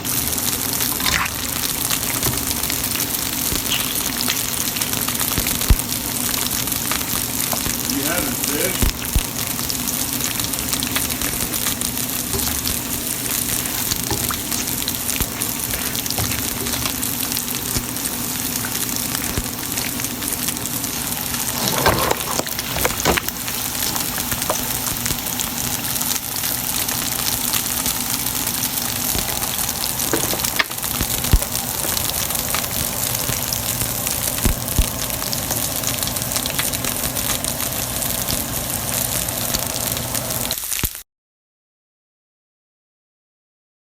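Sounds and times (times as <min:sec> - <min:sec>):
pork sizzling in hot oil: 0:00.0 - 0:41.0.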